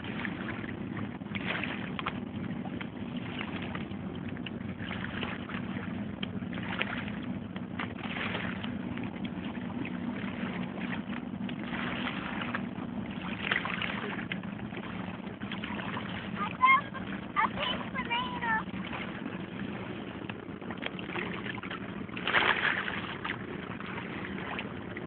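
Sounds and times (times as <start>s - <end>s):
boat engine droning: 0.0s - 25.0s
wind and water rushing: 0.0s - 25.0s.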